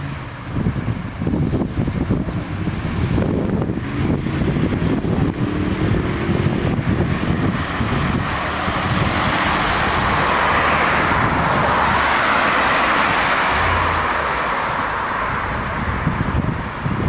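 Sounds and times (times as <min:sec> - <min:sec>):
low rumble: 0:00.4 - 0:16.8.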